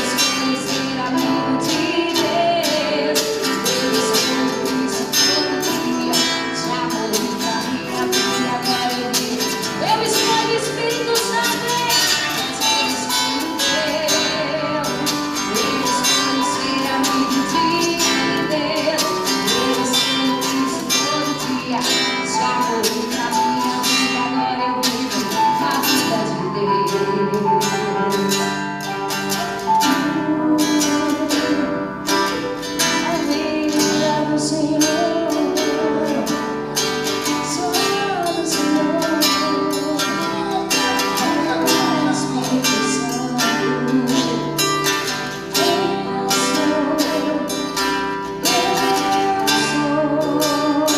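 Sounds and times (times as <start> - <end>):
gospel band guitar and drums: 0.0 - 50.9
person singing: 0.0 - 50.9.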